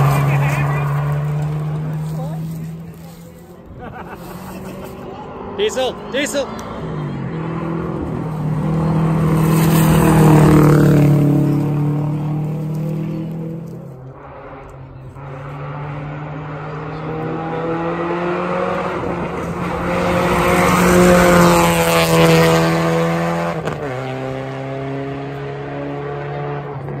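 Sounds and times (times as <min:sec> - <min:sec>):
rally car engine passing: 0:00.0 - 0:27.0.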